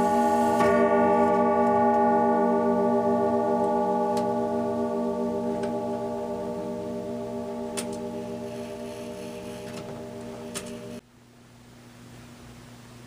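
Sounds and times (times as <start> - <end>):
clock chime rods ringing: 0.0 - 11.0.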